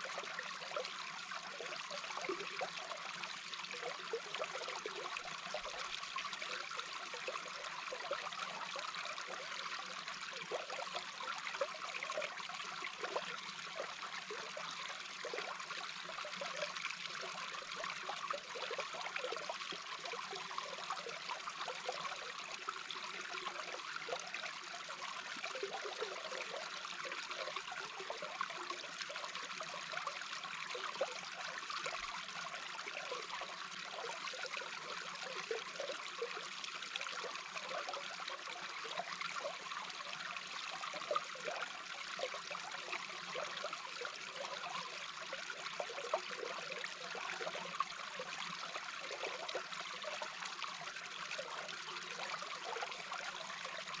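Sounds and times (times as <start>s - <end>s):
water bubbling and gurgling: 0.0s - 54.0s.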